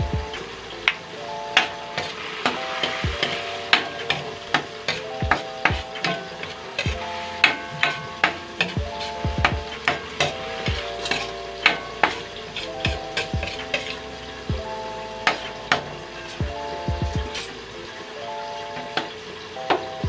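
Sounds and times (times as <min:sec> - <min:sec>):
frying sizzle: 0:00.0 - 0:20.0.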